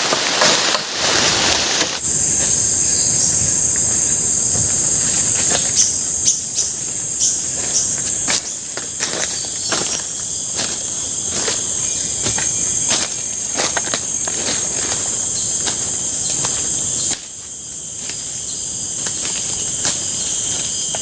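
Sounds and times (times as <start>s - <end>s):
broad hissing noise: 0.0s - 21.0s
insects droning: 0.0s - 21.0s.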